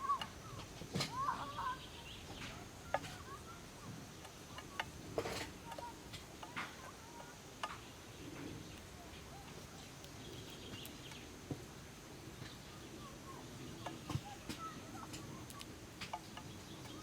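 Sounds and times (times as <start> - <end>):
birds chirping: 0.0 - 17.0
faint high hiss: 0.0 - 17.0.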